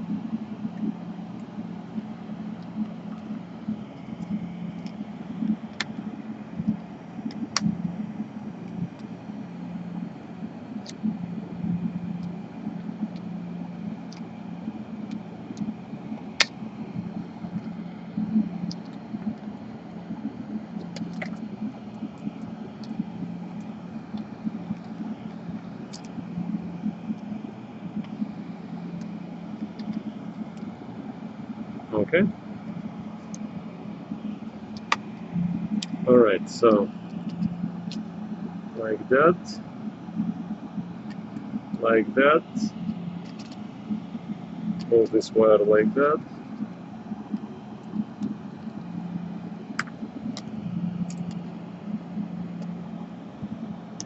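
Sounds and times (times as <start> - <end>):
low background hum: 0.0 - 54.0.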